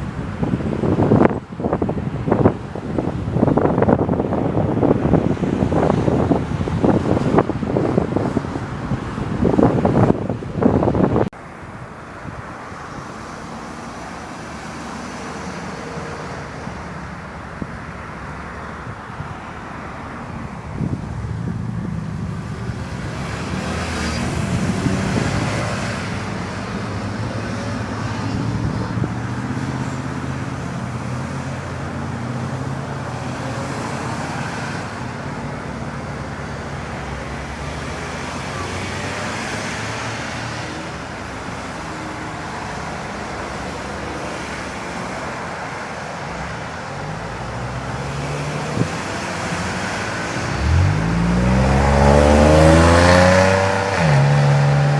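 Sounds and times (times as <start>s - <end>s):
traffic noise: 0.0s - 54.9s
vehicle engine hum: 0.0s - 54.9s.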